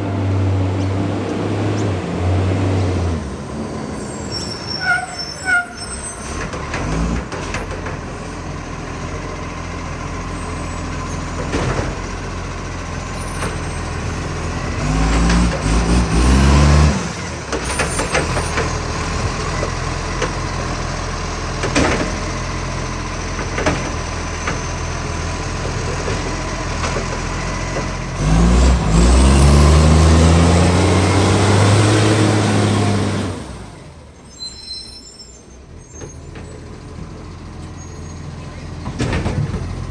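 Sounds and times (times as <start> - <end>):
diesel engine with exhaust leak: 0.0 - 39.9.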